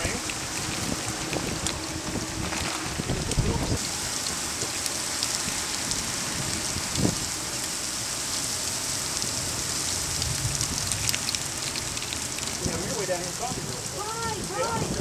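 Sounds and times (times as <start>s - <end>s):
heavy rain splashing on pavement: 0.0s - 15.0s.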